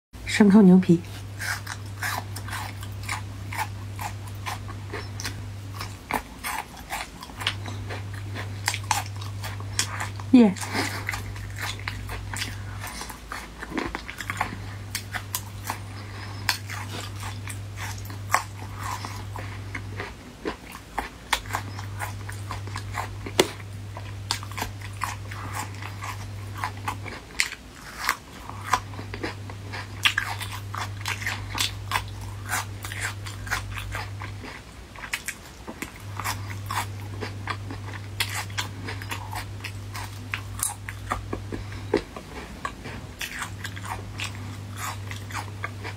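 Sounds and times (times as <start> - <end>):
steady low hum: 0.2 - 45.9
person chewing and crunching: 1.0 - 45.9.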